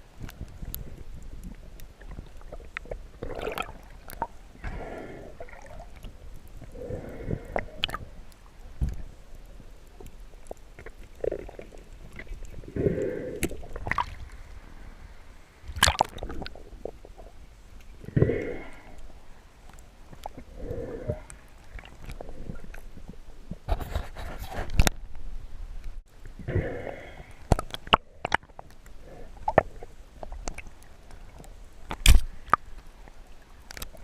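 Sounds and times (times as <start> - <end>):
water sloshing and gurgling: 0.0 - 25.2, 25.9 - 34.0.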